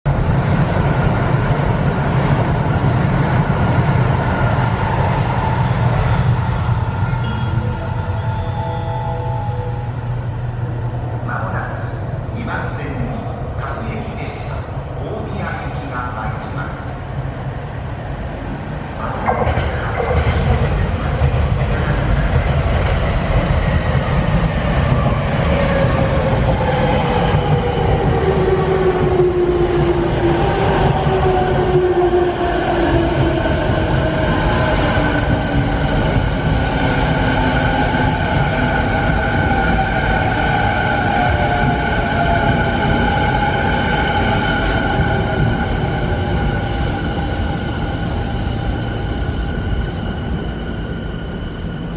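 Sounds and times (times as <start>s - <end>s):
train wheels rumbling on rail: 0.1s - 8.2s, 9.9s - 51.9s.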